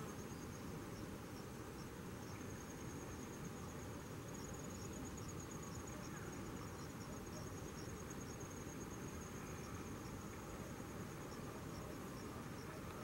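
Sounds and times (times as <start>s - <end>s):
background hiss: 0.0s - 13.0s
insect chirping trill: 0.0s - 13.0s.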